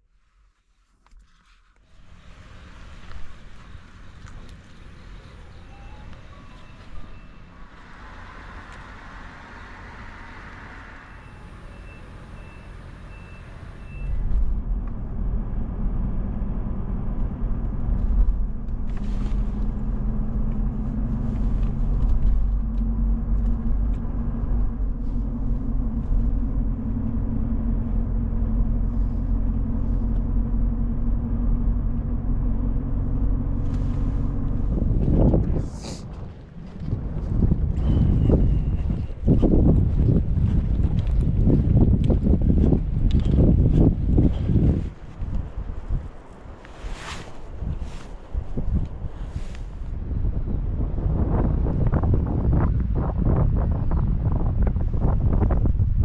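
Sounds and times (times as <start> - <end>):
engine low rumble: 0.0 - 56.0.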